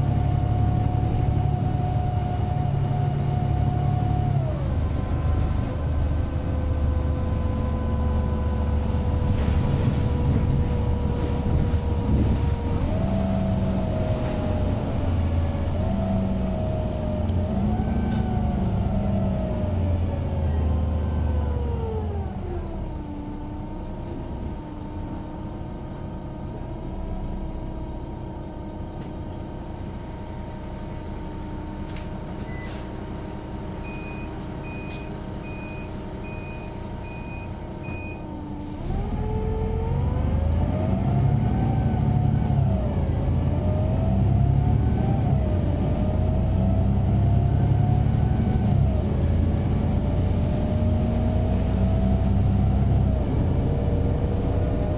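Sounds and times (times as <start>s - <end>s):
bus diesel engine and gearbox whine: 0.0s - 54.9s.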